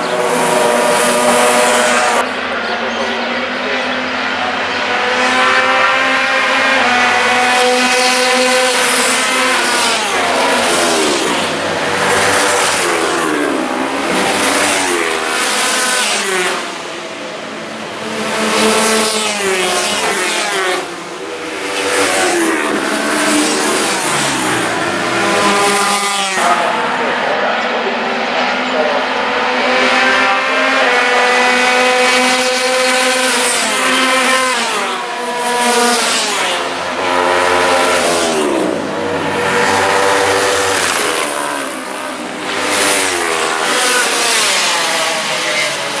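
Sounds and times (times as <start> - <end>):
racing motorcycle engines revving: 0.0 - 46.0.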